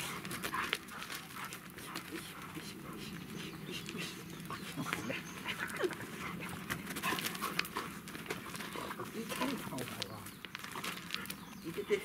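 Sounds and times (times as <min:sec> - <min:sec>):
dogs sniffing: 0:00.0 - 0:11.6
dogs panting: 0:00.0 - 0:12.0
rustles and scuffs: 0:00.0 - 0:12.0.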